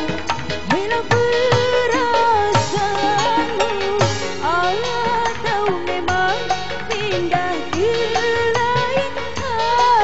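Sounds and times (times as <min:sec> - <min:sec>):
sliding melody over steady beat: 0:00.0 - 0:10.0.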